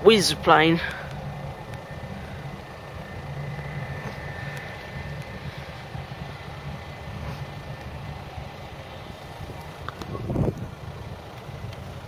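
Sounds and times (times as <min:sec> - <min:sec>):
distant jet engines rumbling: 0:00.0 - 0:12.0
faint high whine: 0:00.0 - 0:12.0.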